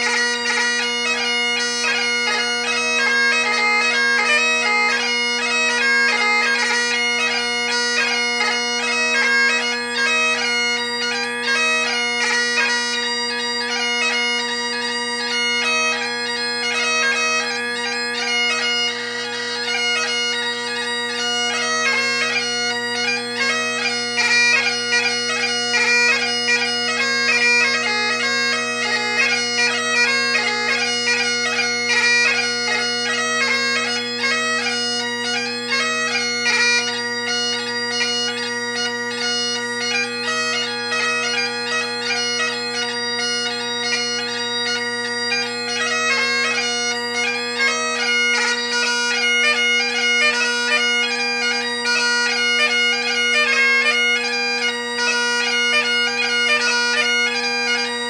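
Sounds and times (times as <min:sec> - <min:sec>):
bagpipe playing fast melody: 0:00.0 - 0:58.0.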